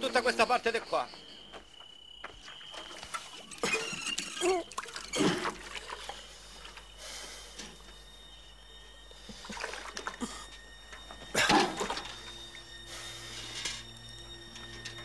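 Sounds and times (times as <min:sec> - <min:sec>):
water sloshing and dripping: 0:02.2 - 0:15.0
squeaky pulley glides: 0:02.6 - 0:15.0.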